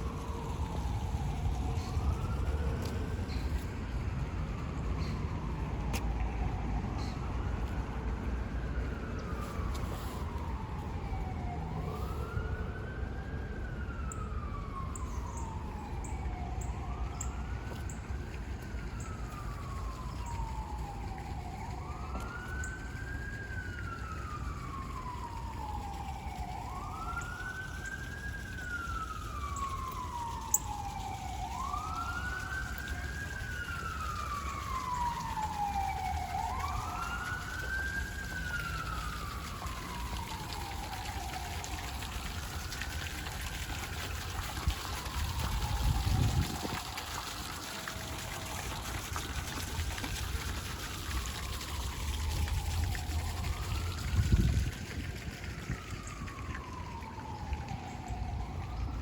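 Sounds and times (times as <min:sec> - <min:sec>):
emergency siren wailing: 0:00.0 - 0:59.0
low traffic rumble: 0:00.0 - 0:59.0.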